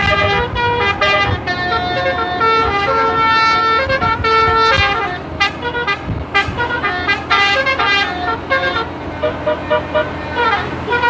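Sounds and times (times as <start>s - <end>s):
bus horn playing a melody: 0.0s - 11.0s.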